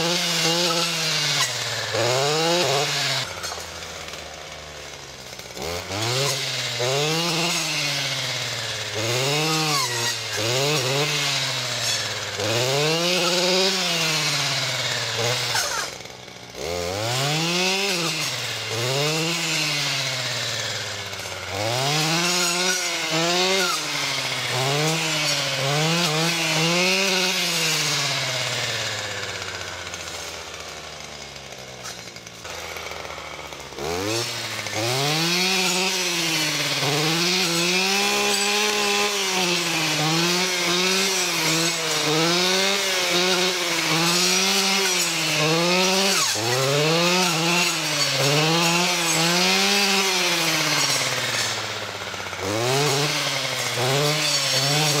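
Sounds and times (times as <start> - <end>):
brushcutter engine revving: 0.0 - 55.0.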